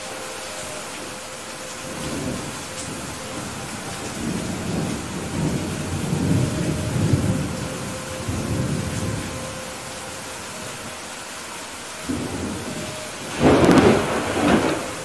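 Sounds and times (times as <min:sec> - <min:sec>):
heavy rain falling: 0:00.0 - 0:15.0
low roll of thunder: 0:01.8 - 0:10.9, 0:12.0 - 0:15.0.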